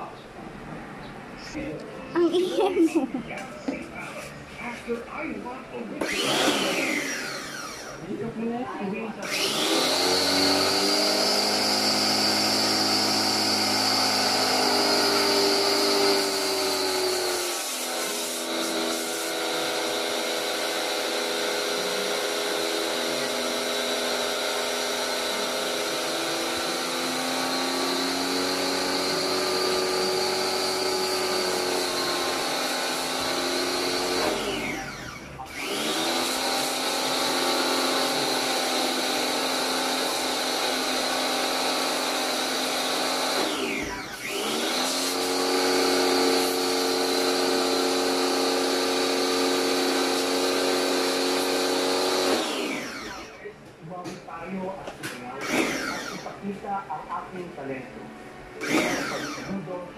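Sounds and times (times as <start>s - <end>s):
pressure washer motor: 6.0s - 8.2s, 9.2s - 53.5s, 55.3s - 56.6s, 58.6s - 59.8s.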